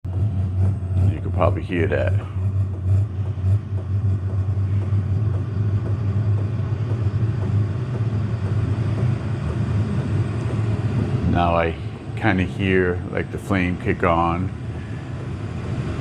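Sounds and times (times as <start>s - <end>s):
heater fan humming: 0.0s - 16.0s.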